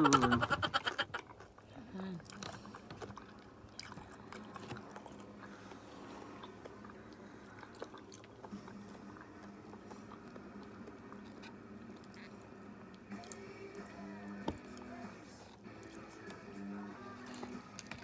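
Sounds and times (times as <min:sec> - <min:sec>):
faint low hum: 0:00.0 - 0:18.0
chewing: 0:01.0 - 0:18.0.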